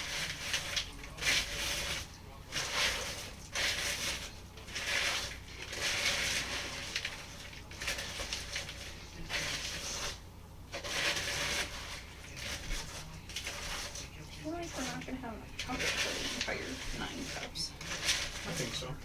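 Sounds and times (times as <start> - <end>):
spoon stirring crunchy cereal: 0.0 - 19.0.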